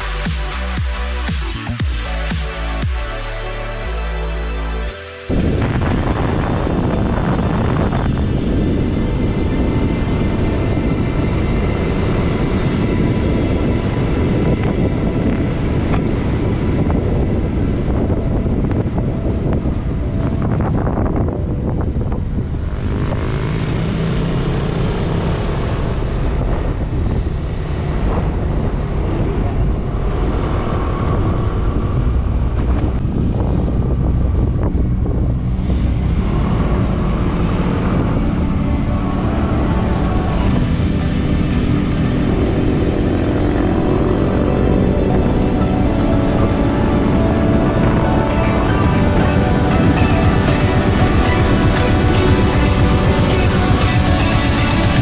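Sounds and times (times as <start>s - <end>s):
motorcycle engine running: 5.3s - 55.0s
wind buffeting microphone: 5.3s - 55.0s.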